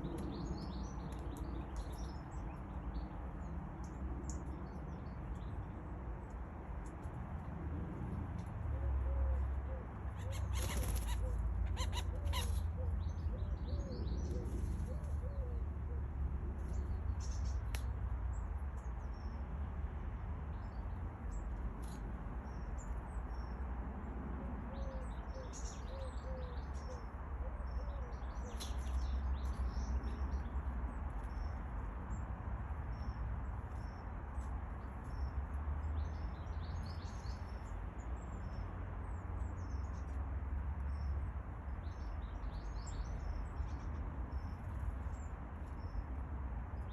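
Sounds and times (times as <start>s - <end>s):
small birds chirping: 0.0s - 7.2s, 8.4s - 19.5s, 24.8s - 46.9s.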